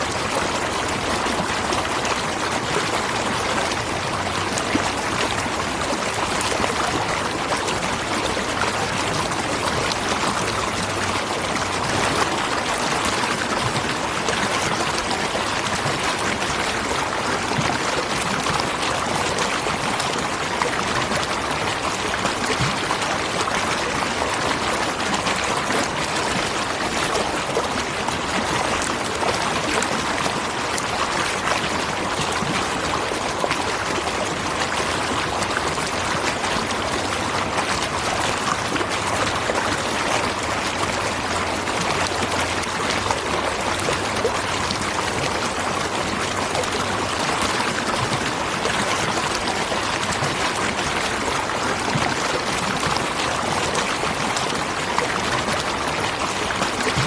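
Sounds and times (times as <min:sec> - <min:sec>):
waterfall and rushing stream: 0:00.0 - 0:57.0.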